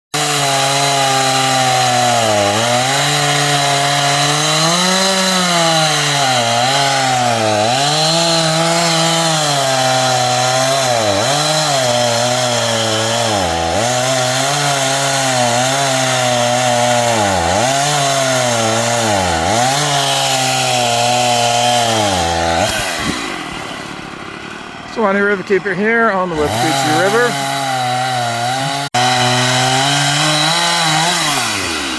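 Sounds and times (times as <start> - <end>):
chainsaw cutting wood: 0.1 - 31.9.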